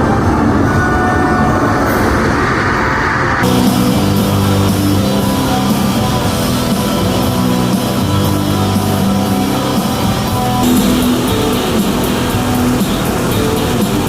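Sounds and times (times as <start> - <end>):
rock music: 2.1 - 14.0.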